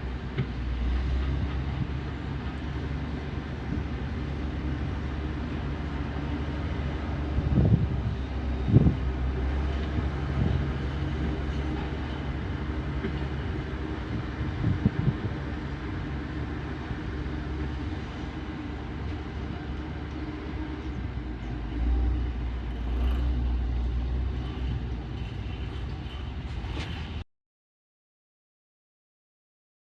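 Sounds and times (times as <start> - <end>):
heavy machinery engine running: 0.0 - 27.2.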